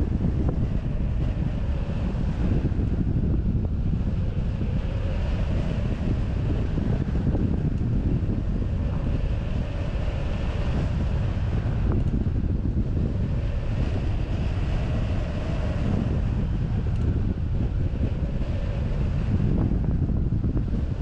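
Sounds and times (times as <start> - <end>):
wind rumbling over microphone: 0.0 - 21.0.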